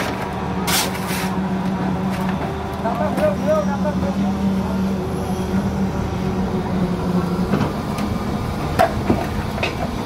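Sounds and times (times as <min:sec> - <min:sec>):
concrete mixer machinery humming: 0:00.0 - 0:10.0.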